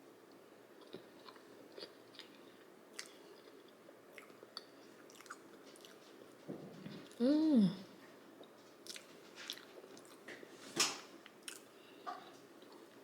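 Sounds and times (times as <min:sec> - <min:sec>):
faint chewing: 0:00.3 - 0:07.2, 0:08.0 - 0:10.3, 0:11.2 - 0:13.0.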